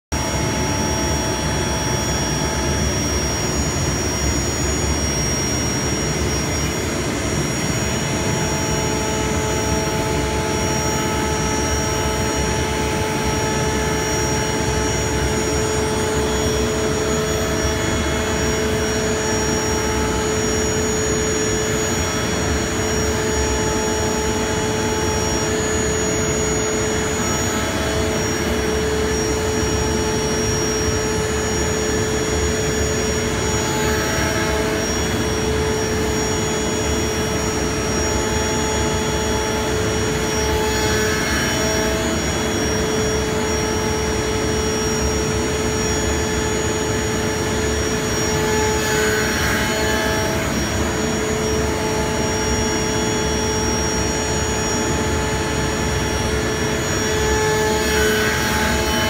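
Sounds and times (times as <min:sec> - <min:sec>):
router spindle whine cutting wood: 0:00.1 - 0:59.0.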